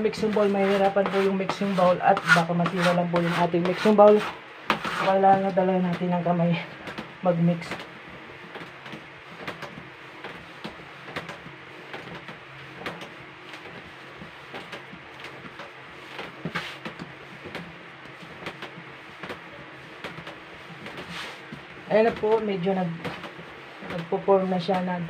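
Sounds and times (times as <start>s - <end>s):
hands kneading dough: 0.0s - 25.0s.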